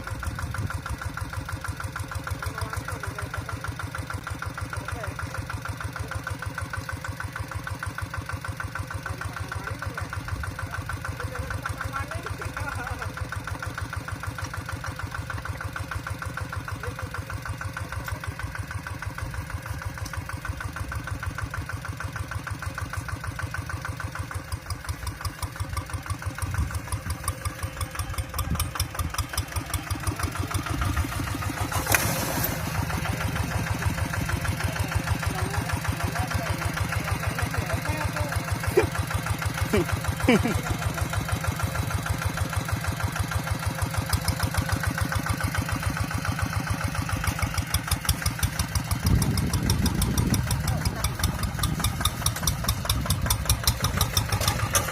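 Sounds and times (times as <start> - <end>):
diesel engine chugging: 0.0 - 54.9.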